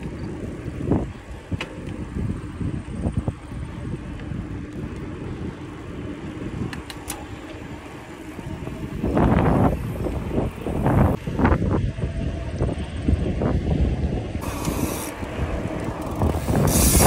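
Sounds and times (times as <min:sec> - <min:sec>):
bike tyres rolling on pavement: 0:00.0 - 0:17.0
wind buffeting microphone: 0:00.0 - 0:17.0.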